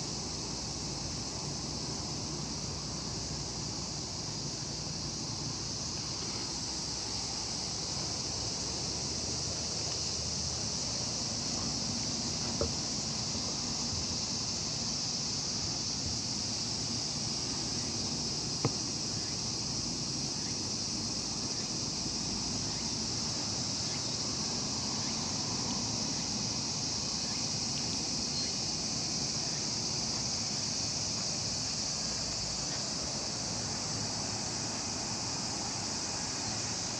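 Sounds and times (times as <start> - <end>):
high insect chorus: 0.0 - 36.9.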